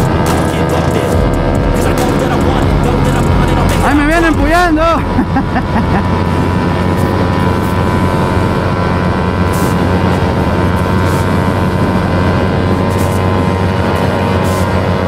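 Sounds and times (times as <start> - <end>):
motorcycle engine at high speed: 0.0 - 15.0.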